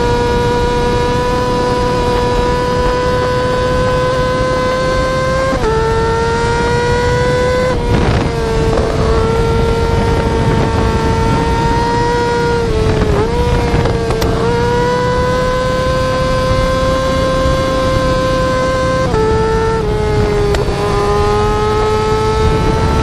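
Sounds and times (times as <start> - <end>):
motorcycle engine at high revs: 0.0 - 23.0
wind and road noise: 0.0 - 23.0.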